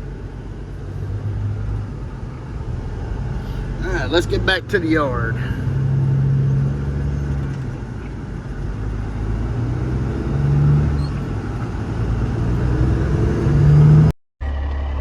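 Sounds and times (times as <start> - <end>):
truck engine pulling away: 0.0 - 15.0.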